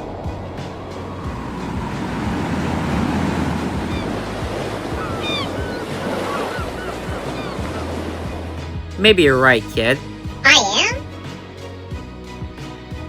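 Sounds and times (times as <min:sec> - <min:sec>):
waves washing: 0:00.0 - 0:10.8.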